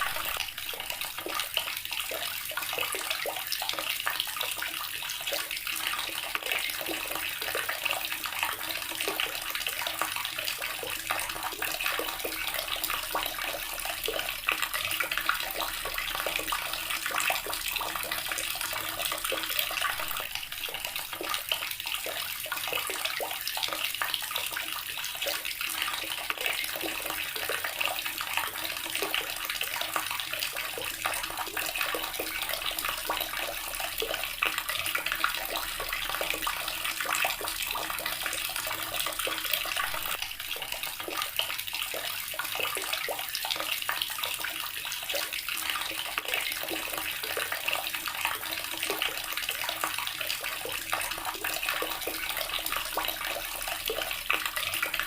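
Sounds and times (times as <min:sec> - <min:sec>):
water running from a tap: 0:00.0 - 0:55.0.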